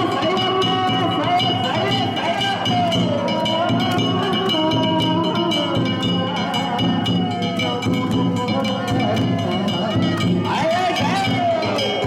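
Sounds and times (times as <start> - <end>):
drums and metal strikes: 0.0 - 12.0
steady ringing tone: 0.0 - 12.0.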